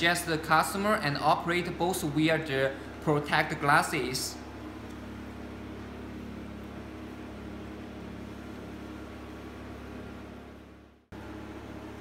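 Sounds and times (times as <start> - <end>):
cooling system machine hum: 0.0 - 12.0.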